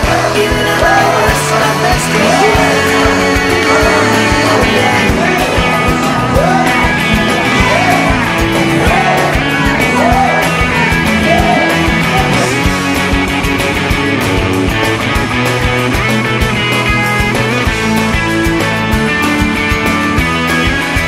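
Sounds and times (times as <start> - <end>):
rock music with singing: 0.0 - 21.0.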